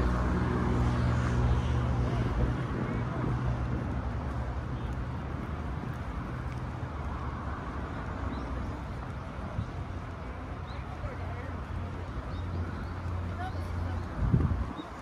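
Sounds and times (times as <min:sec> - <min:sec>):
city background noise: 0:00.0 - 0:15.0.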